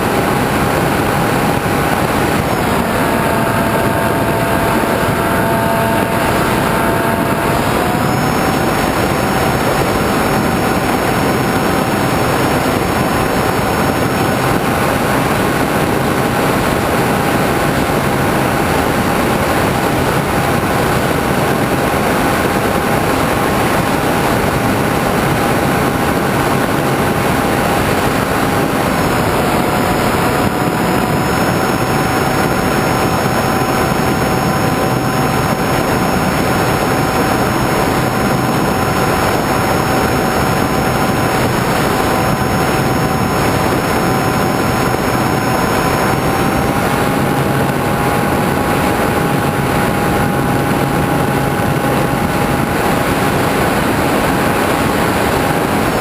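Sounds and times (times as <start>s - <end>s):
model airplane motor and propeller: 0.0s - 56.0s
wind rush: 0.0s - 56.0s.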